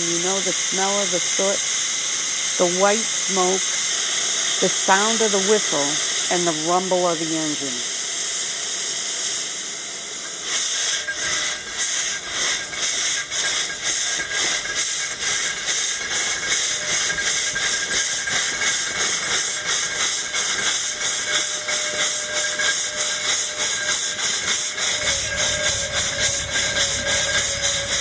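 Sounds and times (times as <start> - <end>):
steam locomotive puffing and hissing: 0.0 - 28.0.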